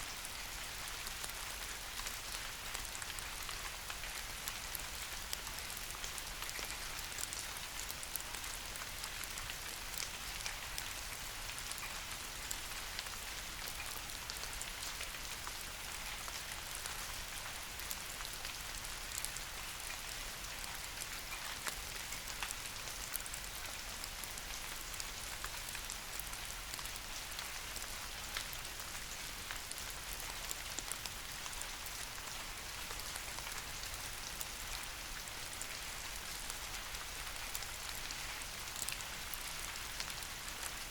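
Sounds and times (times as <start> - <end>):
rain falling on leafy trees: 0.0 - 40.9.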